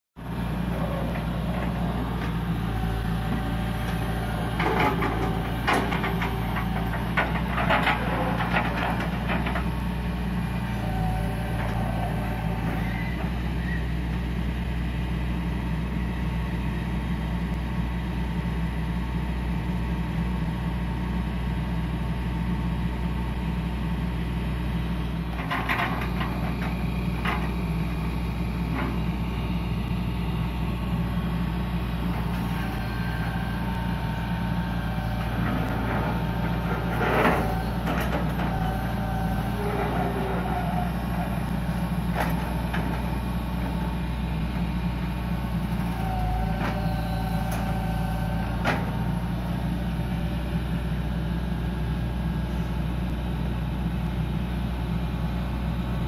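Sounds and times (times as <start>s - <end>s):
diesel engine running: 0.2s - 56.0s.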